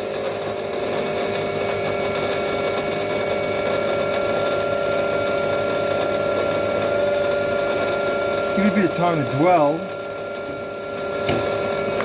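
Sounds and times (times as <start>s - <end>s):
metal lathe motor whine: 0.0s - 12.0s.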